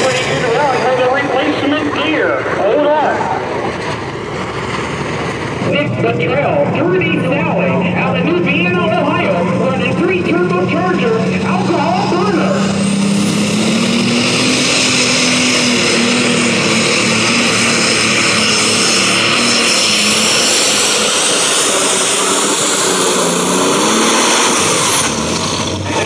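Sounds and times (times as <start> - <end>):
diesel tractor engine at full power: 0.0 - 26.0
turbocharger whine: 0.0 - 26.0.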